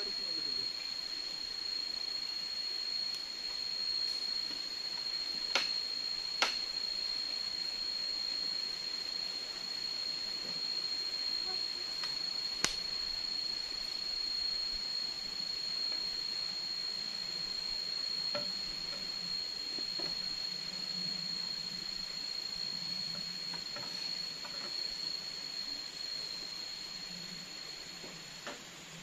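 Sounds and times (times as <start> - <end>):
background hiss: 0.0 - 29.0
cicadas droning: 0.0 - 29.0.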